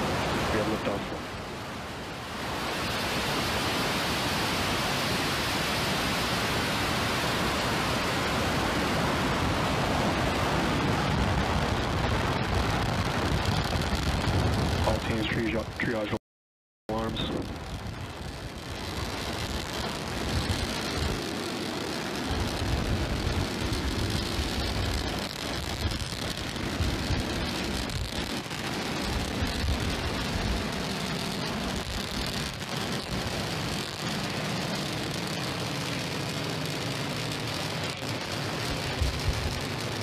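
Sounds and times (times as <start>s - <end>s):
rocket engines roaring and crackling: 0.0s - 16.2s, 16.9s - 40.0s.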